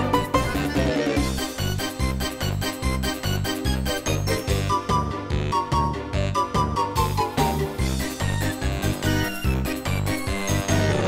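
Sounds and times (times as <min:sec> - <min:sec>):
instrumental cartoon music: 0:00.0 - 0:11.0.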